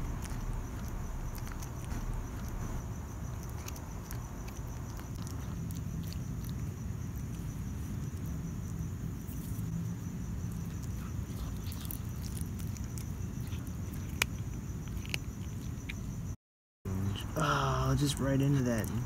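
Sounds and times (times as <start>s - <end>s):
cat chewing and crunching bone: 0.0s - 16.3s
crickets chirring: 0.0s - 19.0s.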